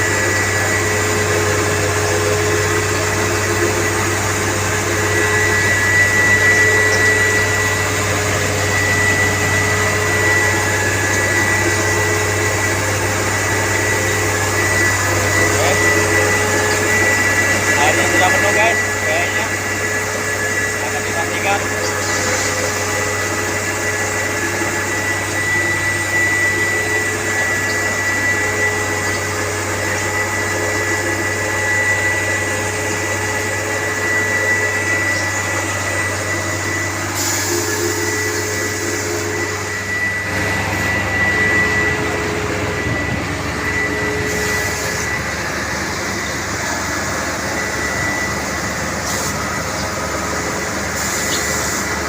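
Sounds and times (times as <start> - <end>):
high machine whine: 0.0 - 52.0
machinery low hum: 0.0 - 52.0.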